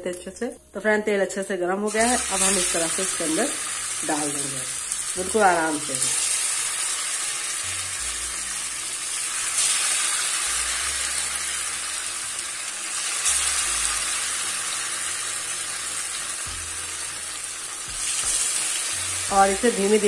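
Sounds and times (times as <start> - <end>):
patties sizzling in hot oil: 1.9 - 20.0.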